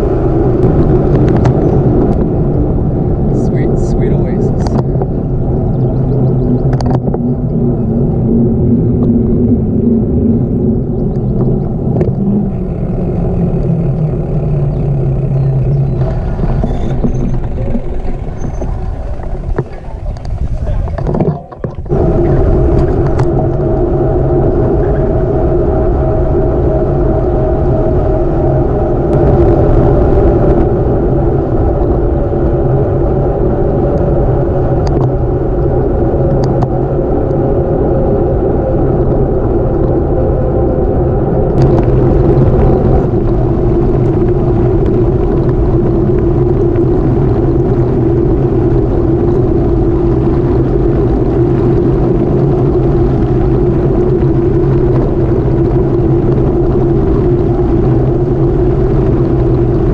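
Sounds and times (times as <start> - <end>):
bicycle tyre hum: 0.0 - 59.9
wind on microphone: 0.0 - 59.9.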